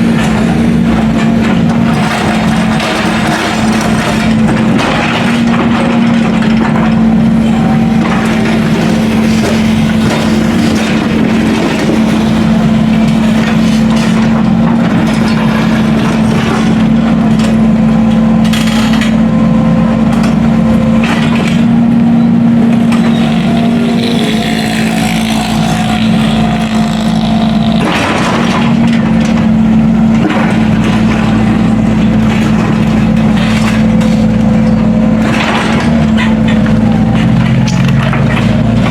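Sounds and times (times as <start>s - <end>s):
clattering and crunching: 0.0s - 38.9s
diesel machinery engine running: 0.0s - 38.9s.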